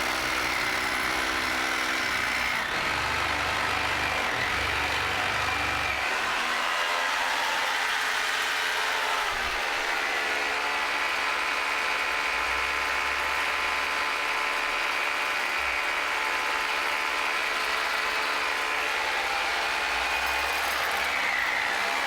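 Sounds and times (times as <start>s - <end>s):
electric drill boring through brick: 0.0s - 22.0s.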